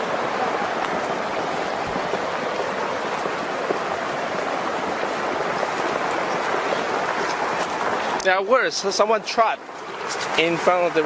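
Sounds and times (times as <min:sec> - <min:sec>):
rushing floodwater: 0:00.0 - 0:11.0.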